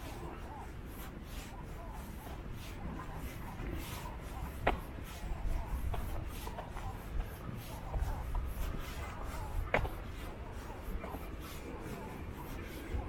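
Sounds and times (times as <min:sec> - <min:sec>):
footsteps walking: 0:00.0 - 0:13.0.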